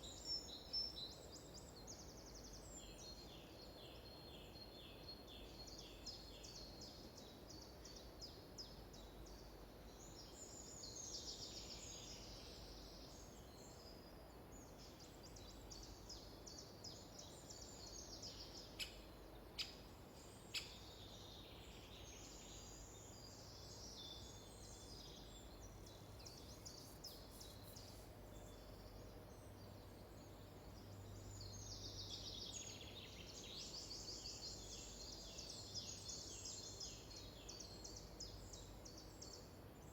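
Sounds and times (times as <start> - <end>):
quiet background hum: 0.0 - 39.9
songbirds singing: 0.0 - 39.9.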